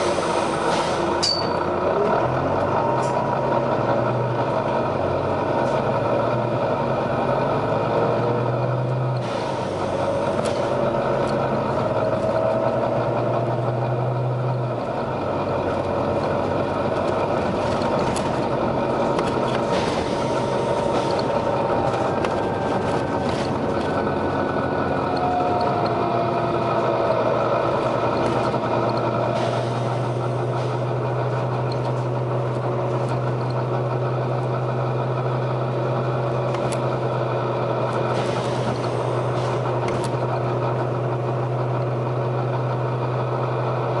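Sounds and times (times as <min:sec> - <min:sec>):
bus diesel engine whining: 0:00.0 - 0:44.0.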